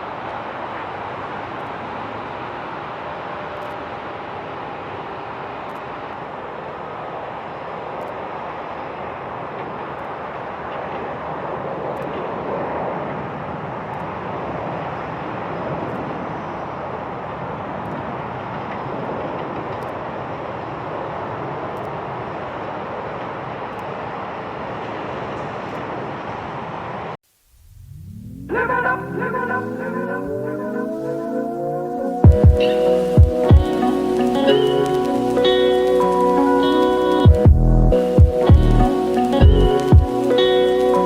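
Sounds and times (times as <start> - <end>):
jet engine rushing: 0.0 - 41.0.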